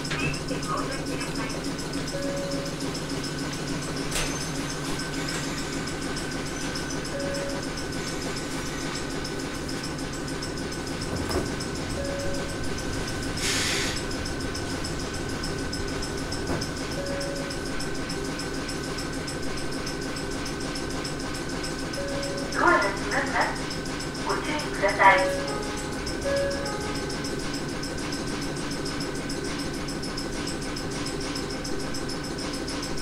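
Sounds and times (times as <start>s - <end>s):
train equipment hum and whine: 0.0s - 33.0s.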